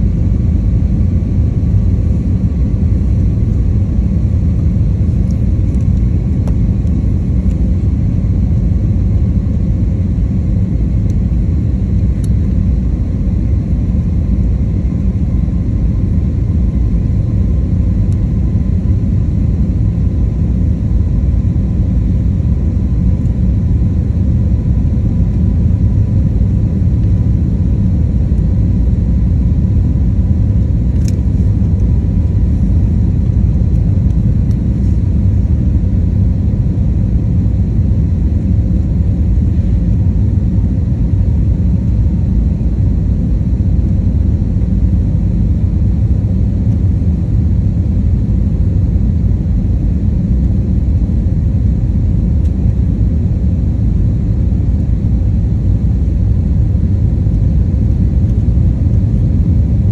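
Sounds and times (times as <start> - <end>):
airliner engines rumbling: 0.0 - 59.9.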